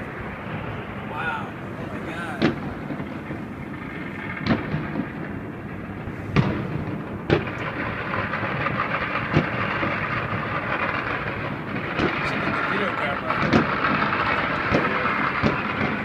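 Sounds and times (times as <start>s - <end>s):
crackle and rumble of fireworks: 0.0s - 16.0s
loud firework bangs: 0.0s - 16.0s.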